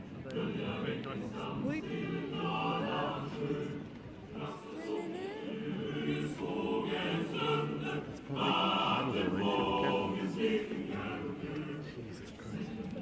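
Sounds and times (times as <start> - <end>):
choir singing: 0.2 - 13.0.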